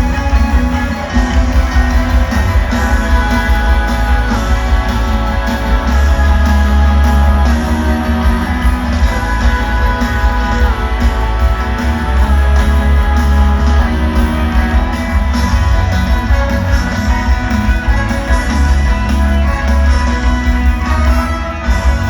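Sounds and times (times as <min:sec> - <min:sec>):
instrumental pop-rock band: 0:00.0 - 0:22.0.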